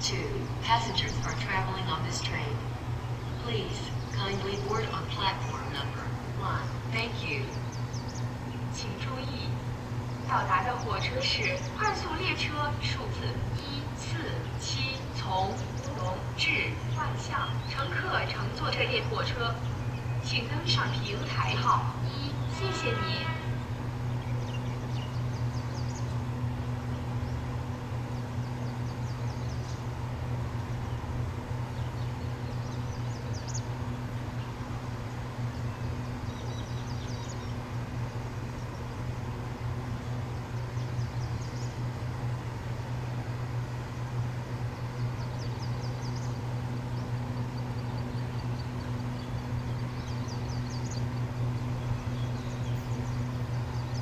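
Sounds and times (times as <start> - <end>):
diesel train engine idling: 0.0 - 54.0.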